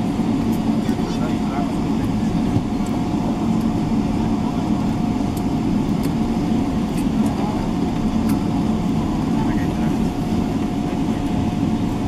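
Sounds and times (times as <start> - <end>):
aircraft cabin low rumble: 0.0 - 12.0
faint engine whine: 0.0 - 12.0.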